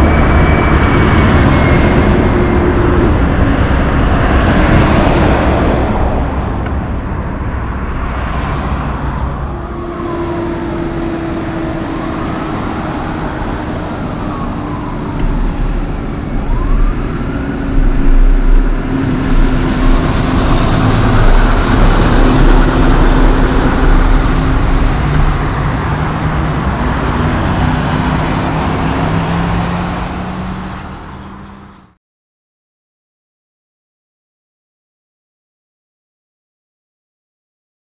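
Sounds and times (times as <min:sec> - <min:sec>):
trucks passing on highway: 0:00.0 - 0:32.0.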